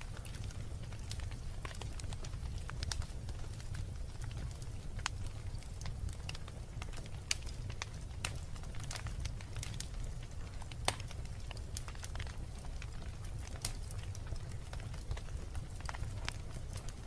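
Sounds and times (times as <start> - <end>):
fire crackling in fireplace: 0.0 - 17.0.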